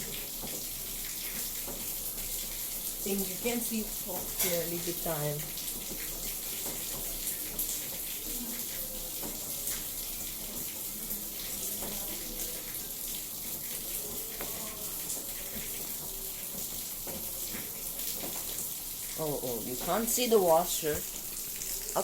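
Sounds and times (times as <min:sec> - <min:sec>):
water splashing in washing machine: 0:00.0 - 0:22.0.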